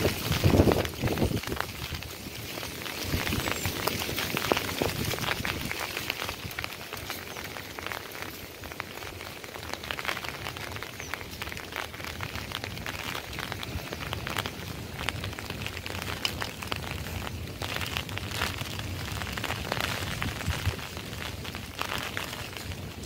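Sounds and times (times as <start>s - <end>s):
crackling taps: 0.0s - 23.0s
wind rumbling on microphone: 0.0s - 23.0s.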